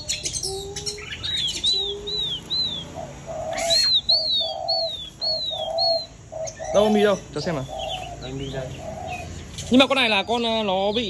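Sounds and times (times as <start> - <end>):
lower repeated bird notes: 0.0 - 11.0.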